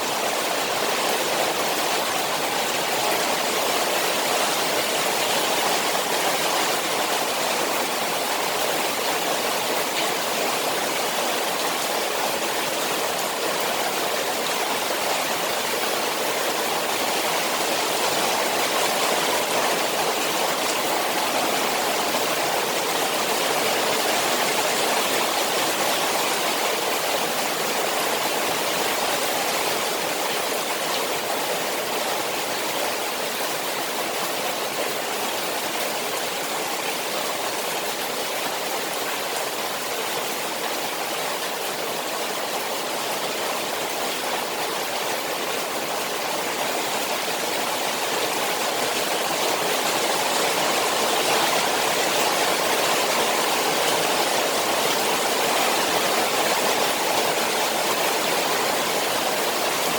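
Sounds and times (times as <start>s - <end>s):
rushing water in the rain: 0.0s - 59.9s.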